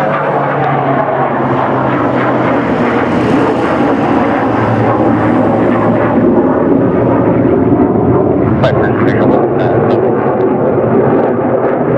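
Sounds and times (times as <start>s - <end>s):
propeller plane engine drone: 0.0s - 11.9s.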